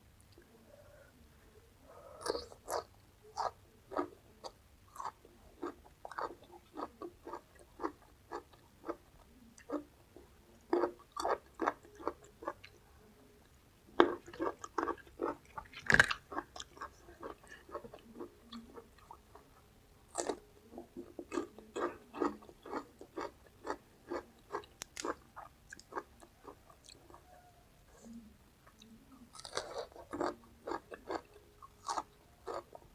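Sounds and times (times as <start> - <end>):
chewing crisp raw vegetables: 2.2 - 12.8, 13.9 - 32.9.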